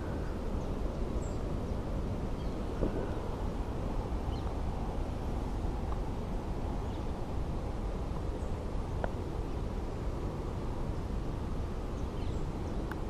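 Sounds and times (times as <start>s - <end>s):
light hiss: 0.0s - 13.0s
steady low rumble: 0.0s - 13.0s.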